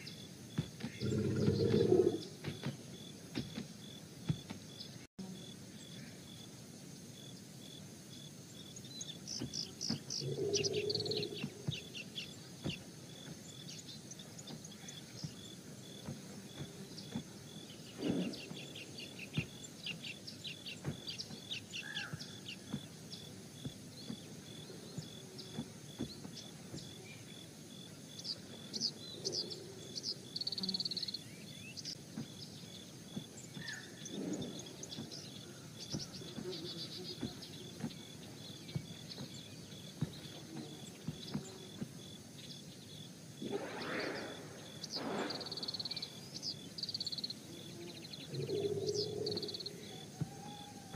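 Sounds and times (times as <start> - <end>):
bird chirps: 0.0 - 3.6, 8.5 - 50.9
pulsing insect trill: 0.0 - 50.9.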